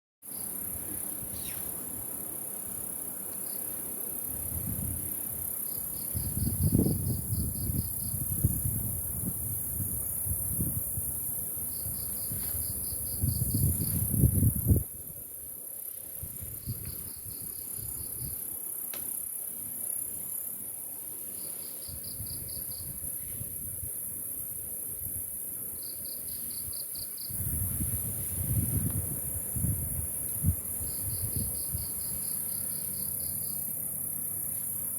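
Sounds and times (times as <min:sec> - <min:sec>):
insect quick trill: 0:00.3 - 0:34.9.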